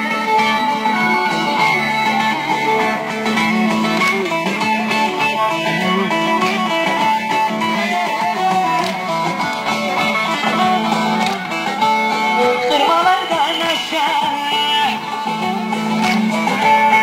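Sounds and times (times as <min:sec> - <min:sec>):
plucked string folk dance music: 0:00.0 - 0:17.0.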